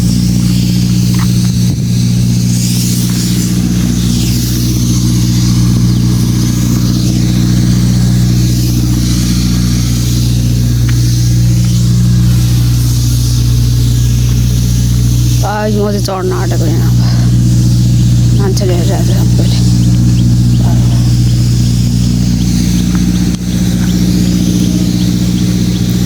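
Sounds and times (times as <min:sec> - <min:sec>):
road roller engine running: 0:00.0 - 0:26.0.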